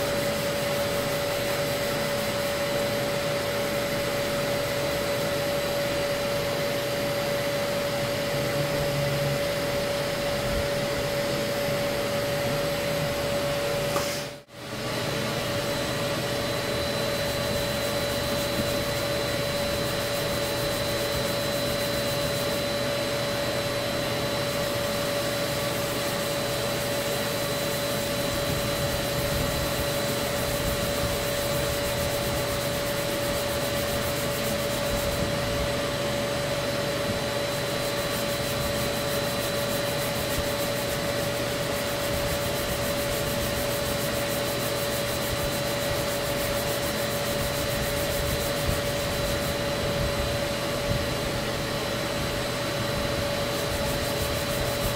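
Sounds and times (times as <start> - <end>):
vacuum whining: 0.0 - 54.9.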